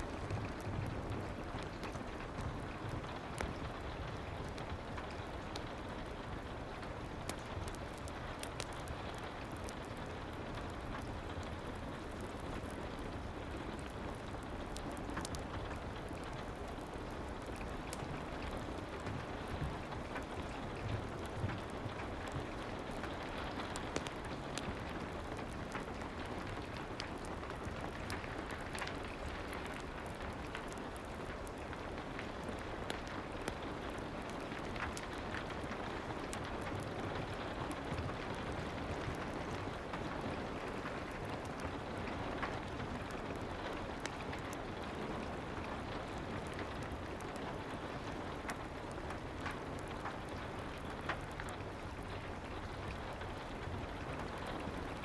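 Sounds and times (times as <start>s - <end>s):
small clicks and ticks: 0.0s - 55.0s
soft steady rain: 0.0s - 55.0s.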